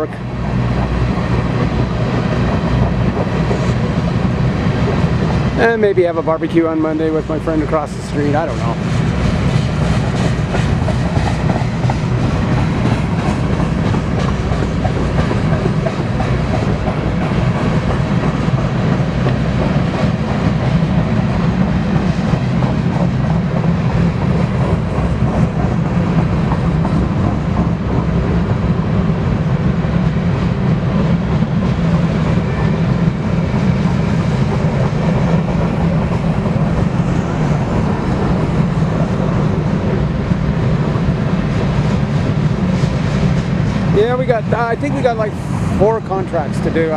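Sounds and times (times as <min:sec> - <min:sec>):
clickety-clack over rail joints: 0:00.0 - 0:46.9
train wheels rumbling on rail: 0:00.0 - 0:46.9.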